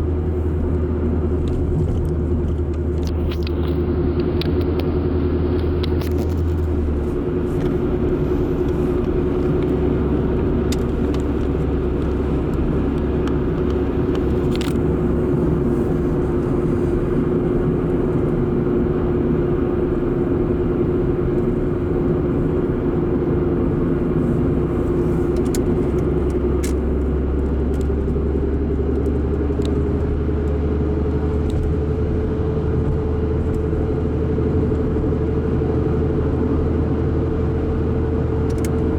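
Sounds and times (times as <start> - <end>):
car engine and exhaust drone: 0.0 - 38.9.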